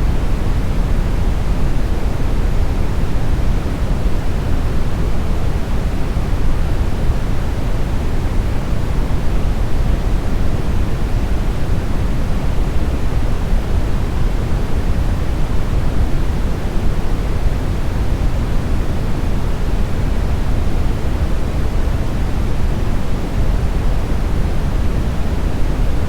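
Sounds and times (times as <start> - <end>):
brown noise: 0.0 - 26.0.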